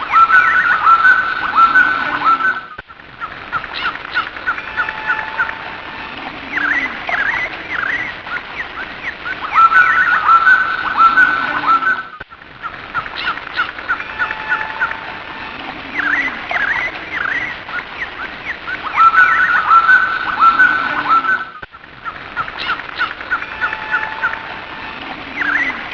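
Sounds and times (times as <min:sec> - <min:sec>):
birds chirping and calling: 0:00.0 - 0:25.9.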